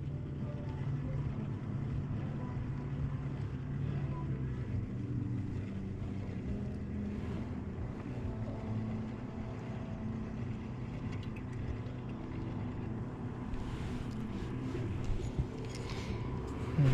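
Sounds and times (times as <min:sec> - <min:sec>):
motorboat engine running: 0:00.0 - 0:16.9.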